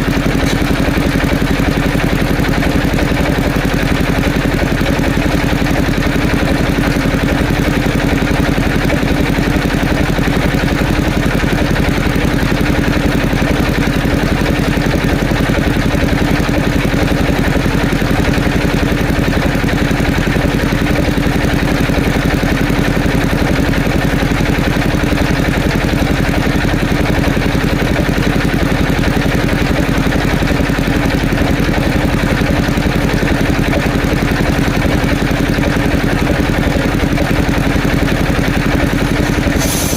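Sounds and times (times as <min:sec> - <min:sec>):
sawing machine engine running: 0:00.0 - 0:39.9.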